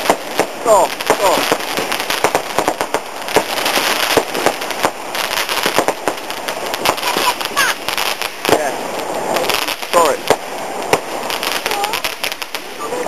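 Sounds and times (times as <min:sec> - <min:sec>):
fireworks crackle: 0:00.0 - 0:13.0
fireworks cracks and bangs: 0:00.0 - 0:13.0.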